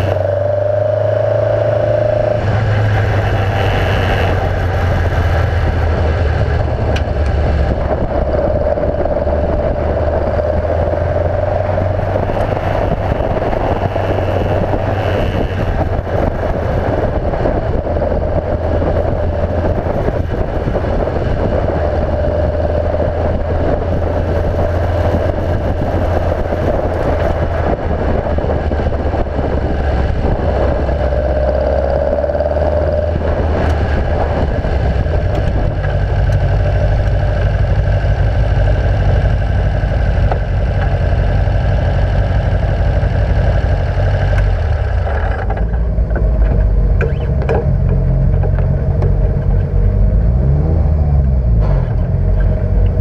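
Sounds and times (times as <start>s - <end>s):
race car engine at low revs: 0.0s - 53.0s
steady whine: 0.0s - 53.0s.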